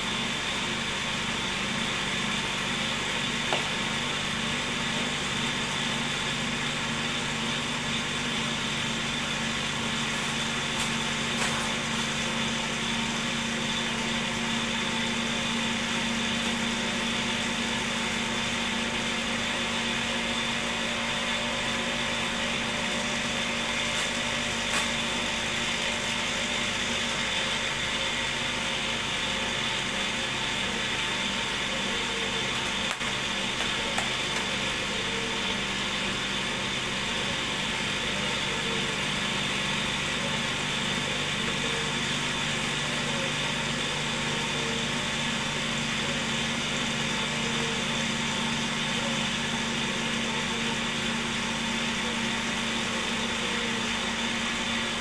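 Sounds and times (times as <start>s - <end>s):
motor humming with high whine: 0.0s - 55.0s.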